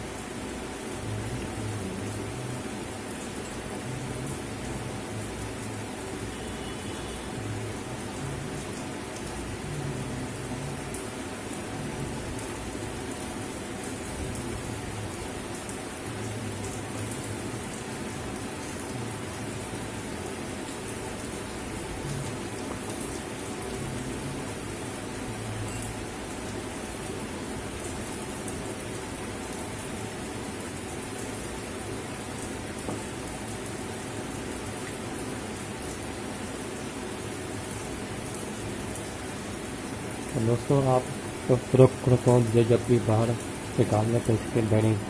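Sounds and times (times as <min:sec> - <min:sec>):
steady hiss: 0:00.0 - 0:45.0.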